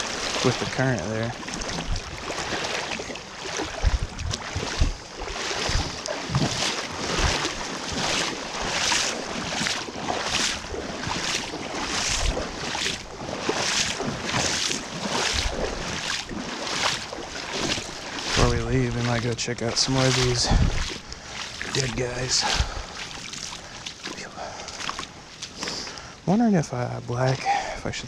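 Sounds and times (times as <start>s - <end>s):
river current rushing: 0.0s - 26.0s
legs swishing through water: 0.0s - 26.2s.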